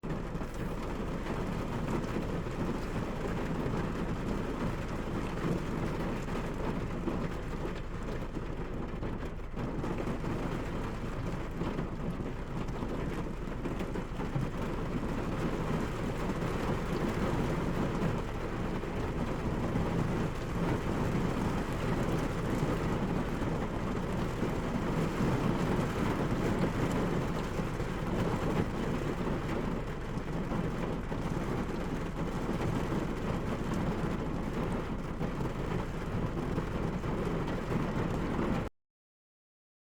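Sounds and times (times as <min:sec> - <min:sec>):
steady rain falling: 0:00.1 - 0:38.7.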